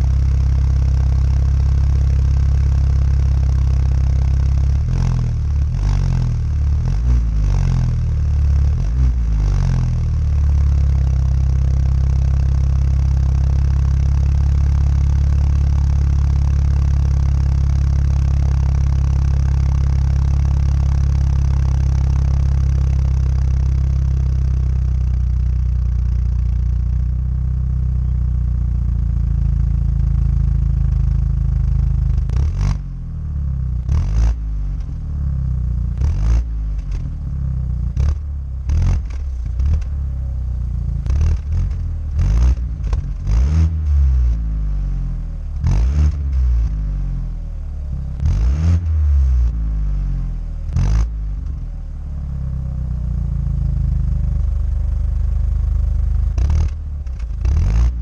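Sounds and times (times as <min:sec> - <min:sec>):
car engine idling: 0:00.0 - 0:58.0
car exhaust throttle blips: 0:00.0 - 0:58.0.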